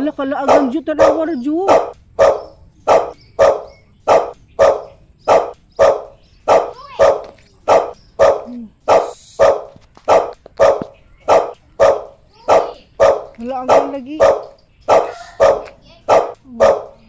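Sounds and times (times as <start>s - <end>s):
dog barking: 0.2s - 17.0s.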